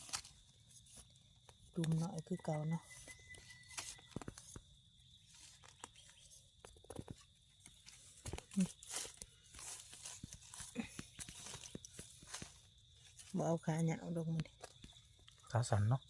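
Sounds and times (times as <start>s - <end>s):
crunching of dry leaves and twigs: 0.0s - 15.7s.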